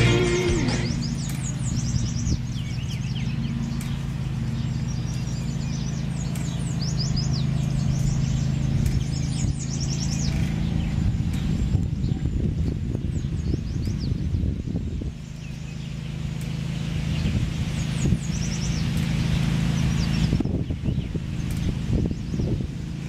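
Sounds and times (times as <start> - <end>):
songbirds chirping: 0.0 - 23.0
steady low hum: 0.0 - 23.0.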